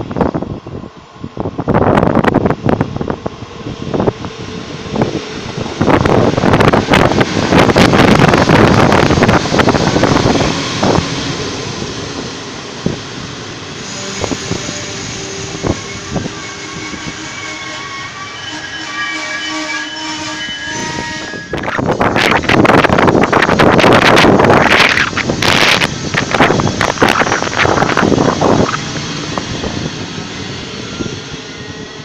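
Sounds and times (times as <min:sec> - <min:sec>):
wind gusts on microphone: 0:00.0 - 0:17.5, 0:20.4 - 0:32.0
high whining train tones: 0:00.0 - 0:32.0
train wheels rumbling on rails: 0:00.0 - 0:32.0.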